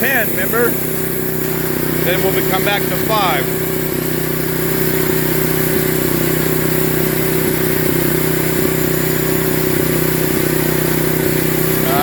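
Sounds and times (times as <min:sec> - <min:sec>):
sawmill engine humming: 0:00.0 - 0:12.0.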